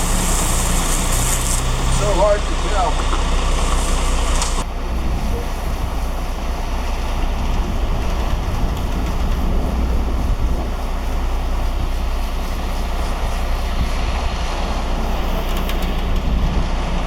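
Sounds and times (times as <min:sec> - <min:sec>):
concrete rushing from truck: 0:00.0 - 0:17.0
concrete truck engine rumbling: 0:00.0 - 0:17.0.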